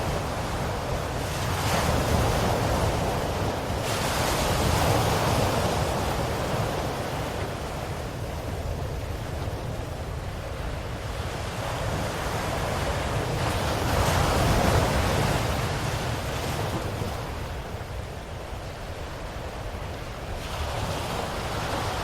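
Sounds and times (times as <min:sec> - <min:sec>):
ocean waves washing onto shore: 0:00.0 - 0:22.0.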